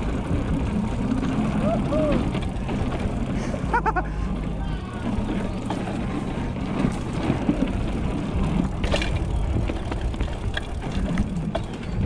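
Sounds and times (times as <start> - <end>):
bike clicking and knocking: 0.0 - 12.0
tyres rumbling: 0.0 - 12.0
wind: 0.0 - 12.0.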